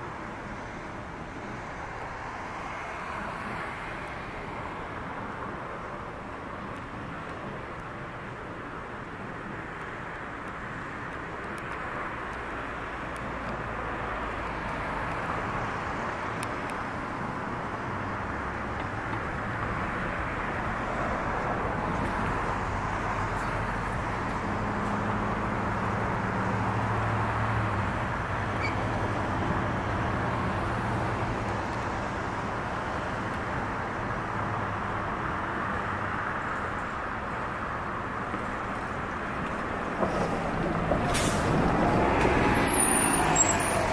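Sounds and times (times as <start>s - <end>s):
road traffic noise: 0.0s - 43.9s
vehicle engine hum: 0.0s - 43.9s.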